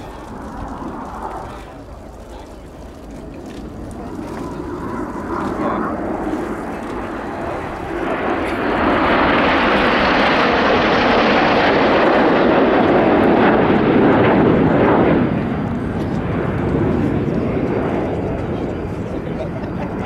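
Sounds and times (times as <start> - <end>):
jets passing by: 0.0 - 20.0.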